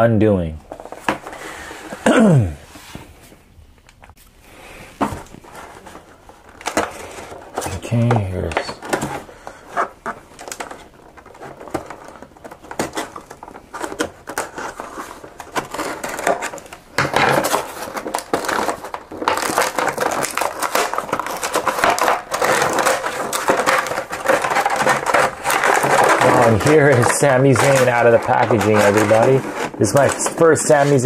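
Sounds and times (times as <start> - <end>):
plastic and cardboard crinkling: 0.6 - 3.4, 4.1 - 31.0
clicks and scrapes: 5.0 - 31.0.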